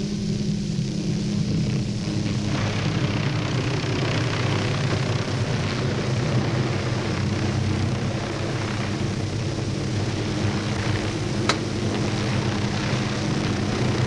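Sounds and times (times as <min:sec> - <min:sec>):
helicopter drone: 0:00.0 - 0:14.0.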